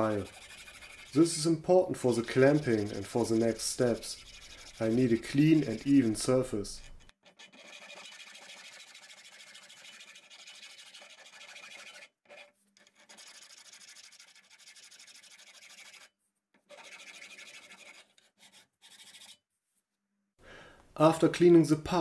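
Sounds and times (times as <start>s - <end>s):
file rasping on metal: 0.0s - 19.4s.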